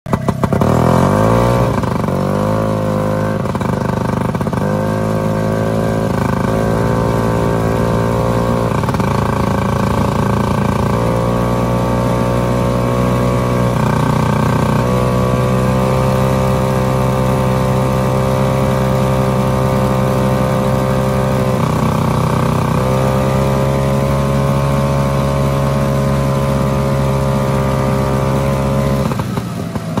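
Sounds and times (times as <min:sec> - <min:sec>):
engine running under load: 0:00.1 - 0:30.0.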